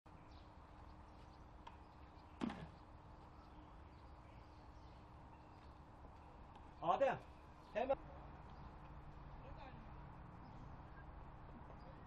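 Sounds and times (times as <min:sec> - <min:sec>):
faint outdoor ambience: 0:00.1 - 0:12.0.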